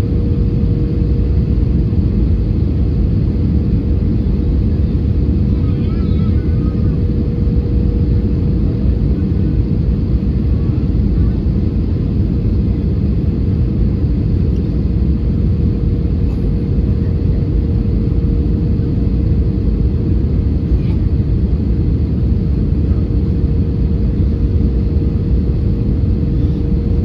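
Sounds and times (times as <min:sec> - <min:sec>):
constant hum-like tone: 0:00.0 - 0:27.0
low rumble of engines and airflow: 0:00.0 - 0:27.0.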